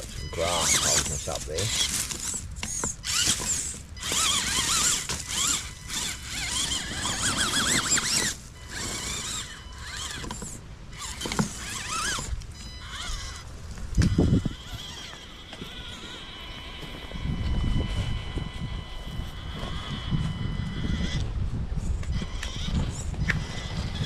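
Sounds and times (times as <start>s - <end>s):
rc car electric motor whining: 0.0s - 24.0s.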